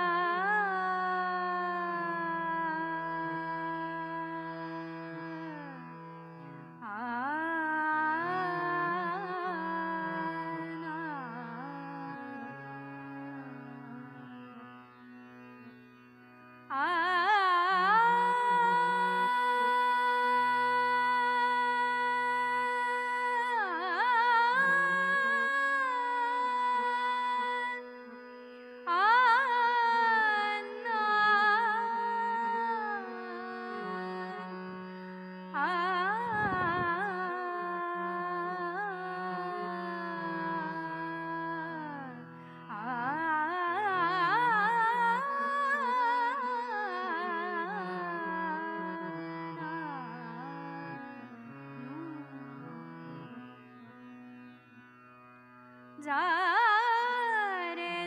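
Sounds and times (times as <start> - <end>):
woman singing classical vocal: 0.0 - 15.0, 16.6 - 53.4, 56.0 - 58.0
harmonium sustained notes: 0.0 - 15.2, 16.6 - 55.4.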